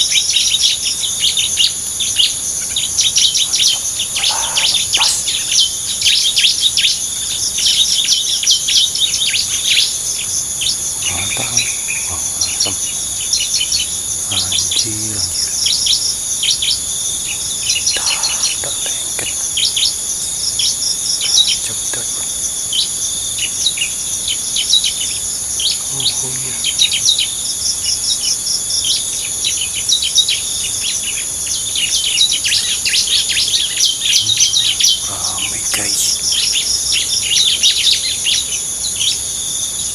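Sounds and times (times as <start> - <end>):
high insect drone: 0.0 - 39.9
small birds chirping: 0.0 - 39.9.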